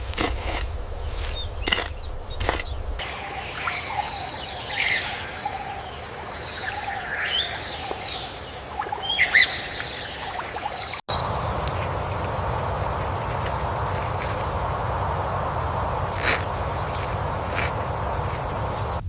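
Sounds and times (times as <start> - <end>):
outdoor background: 0.0 - 19.0
birds chirping: 0.8 - 19.0.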